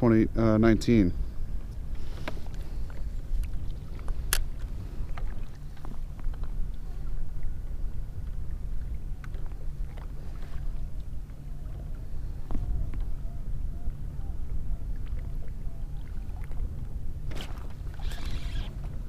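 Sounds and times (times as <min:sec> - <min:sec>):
low rumble of wind and water: 0:00.0 - 0:19.0.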